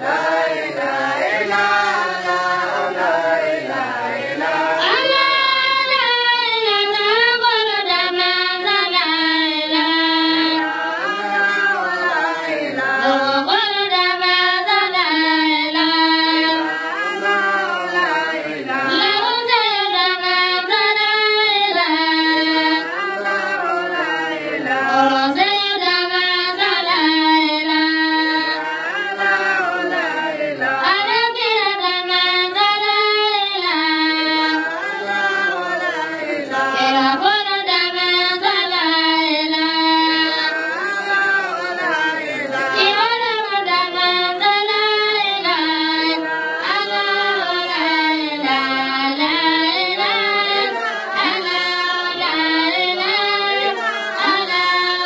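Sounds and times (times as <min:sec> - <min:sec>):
high voice singing: 0:00.0 - 0:55.0.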